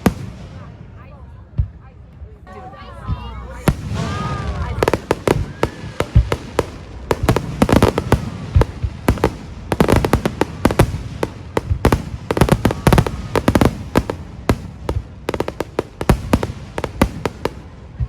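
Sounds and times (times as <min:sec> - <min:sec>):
fireworks bangs and cracks: 0:00.0 - 0:00.9, 0:03.2 - 0:18.0.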